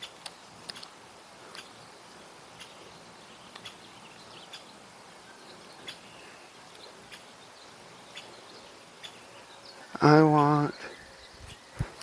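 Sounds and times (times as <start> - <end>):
low hiss: 0.0 - 12.0
bird chirps: 1.5 - 12.0.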